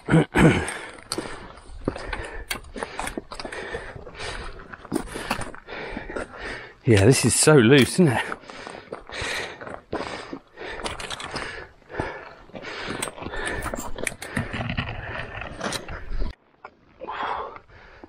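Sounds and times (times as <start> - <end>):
boots scrambling on loose scree: 0.1 - 16.4.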